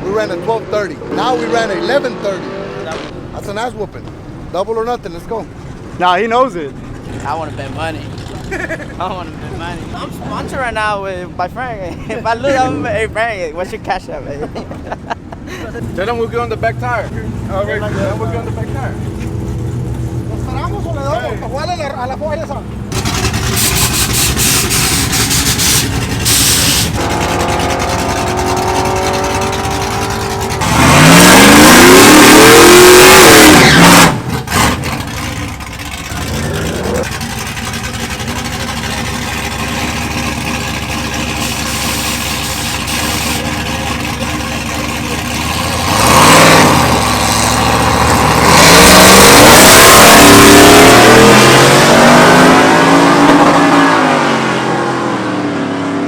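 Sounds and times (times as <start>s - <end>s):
drag racing engines at full throttle: 0.0s - 11.6s, 14.7s - 56.0s
engines running steadily: 0.0s - 56.0s.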